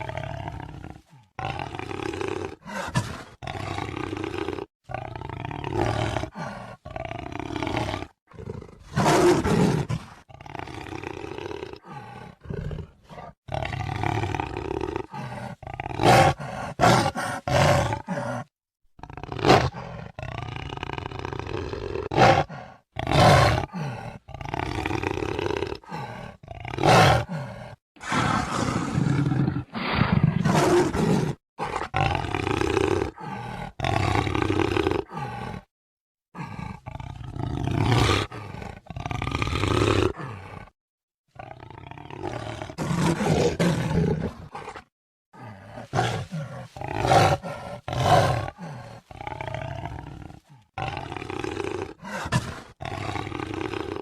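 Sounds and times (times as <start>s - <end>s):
jaguar roaring and growling: 0.0s - 35.7s, 36.3s - 40.8s, 41.4s - 54.0s.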